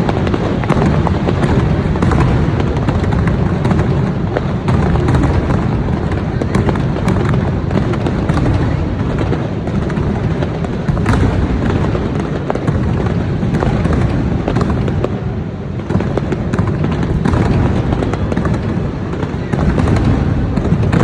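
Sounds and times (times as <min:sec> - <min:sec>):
fireworks crackling: 0:00.0 - 0:21.0
fireworks rumbling bursts: 0:00.0 - 0:21.0.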